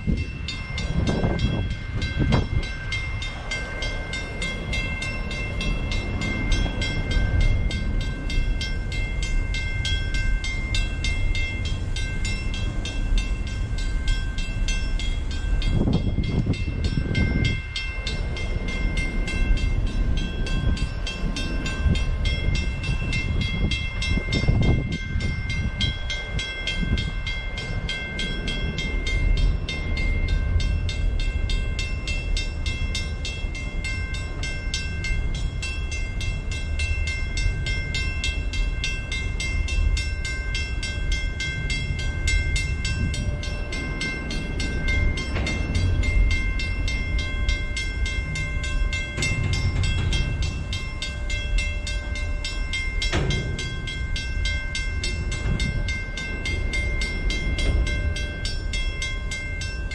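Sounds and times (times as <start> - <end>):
crossing bell ringing: 0.0 - 59.9
train wheels rumbling on rail: 0.0 - 59.9.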